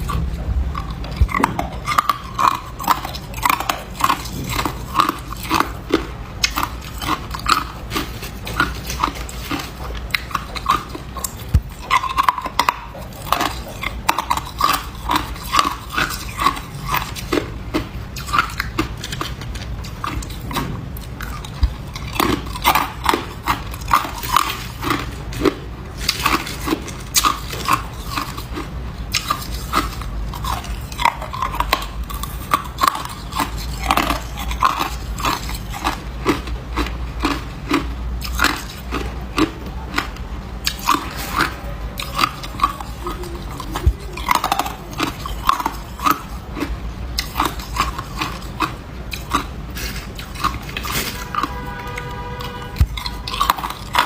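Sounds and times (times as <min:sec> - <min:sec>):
person crunching ice: 0:00.9 - 0:52.0, 0:52.7 - 0:54.0.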